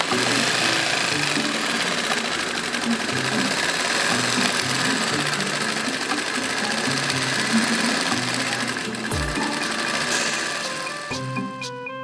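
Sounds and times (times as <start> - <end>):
sewing machine running: 0.0 - 11.7.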